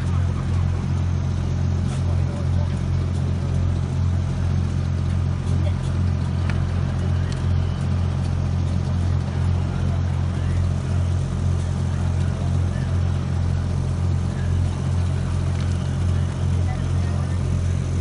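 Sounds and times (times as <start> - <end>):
machinery rumbling: 0.0 - 18.0.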